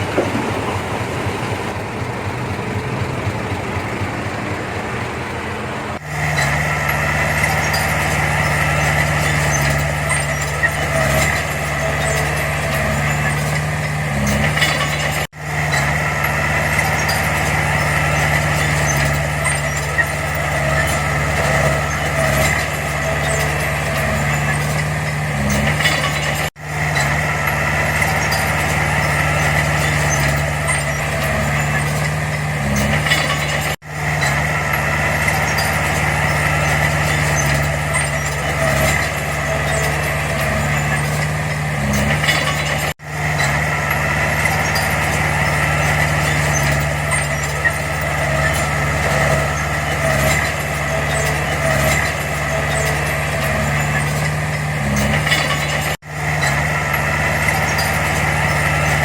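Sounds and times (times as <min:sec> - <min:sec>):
heavy diesel machinery droning: 0:00.0 - 0:59.0.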